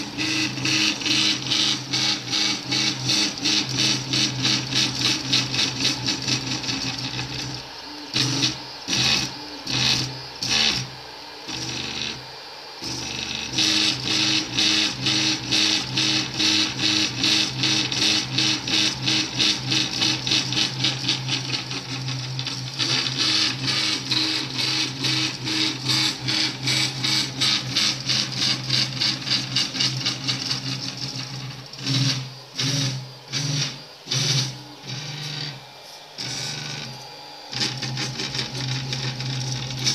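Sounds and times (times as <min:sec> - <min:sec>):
printer stepper motors whirring: 0:00.0 - 0:39.9.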